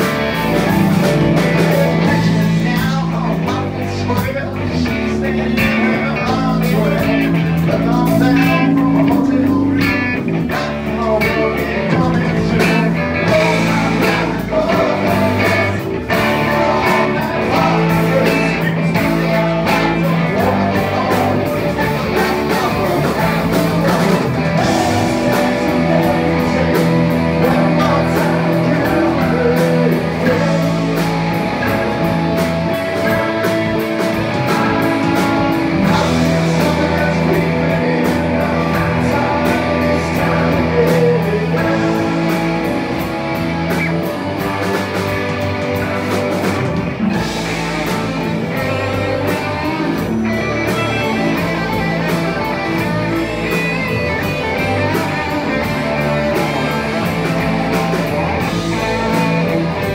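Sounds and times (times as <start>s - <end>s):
drums: 0.0s - 59.9s
electric bass: 0.0s - 59.9s
electric guitars: 0.0s - 59.9s.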